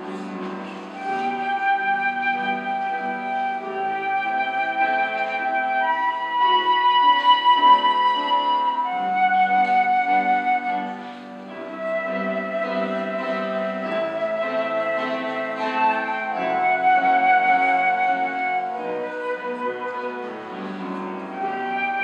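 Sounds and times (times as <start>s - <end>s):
flute melody: 0.0s - 22.0s
keyboard accompaniment: 0.0s - 22.0s.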